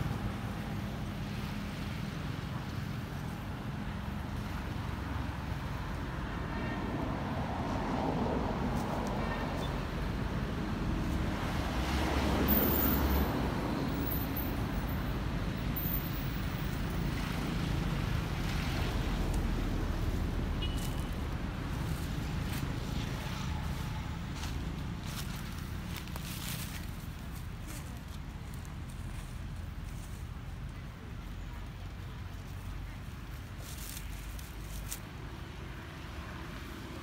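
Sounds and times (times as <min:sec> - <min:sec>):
road noise: 0:00.0 - 0:37.0
vehicle passing: 0:04.0 - 0:33.7.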